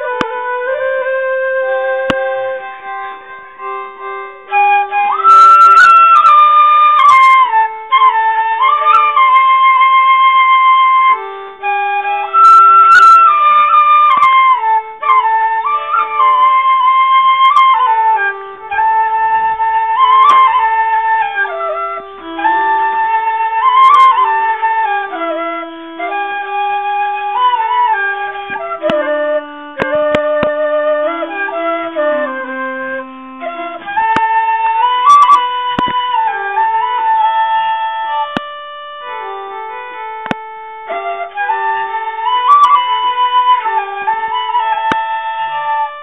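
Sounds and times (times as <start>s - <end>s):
solo flute melody: 0.0s - 46.0s.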